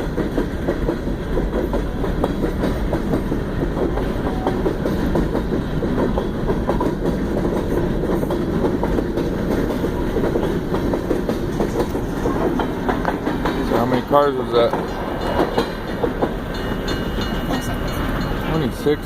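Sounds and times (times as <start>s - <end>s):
clacks over rail joints: 0.0s - 19.0s
train wheels rumbling on rail: 0.0s - 19.0s.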